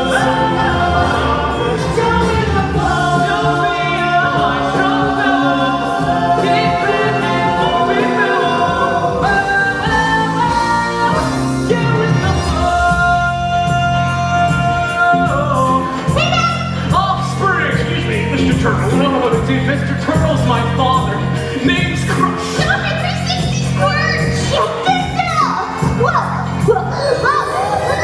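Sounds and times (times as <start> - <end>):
chorus singing show tune: 0.0 - 28.0.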